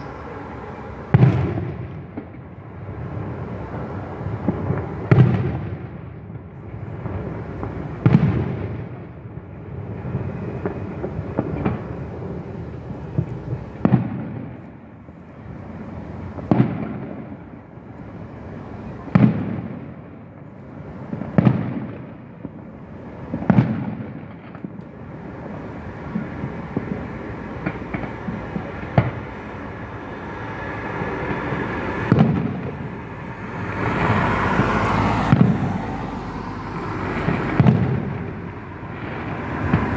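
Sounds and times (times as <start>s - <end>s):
firework shells booming: 0.0s - 18.1s, 18.7s - 35.9s, 37.0s - 39.9s.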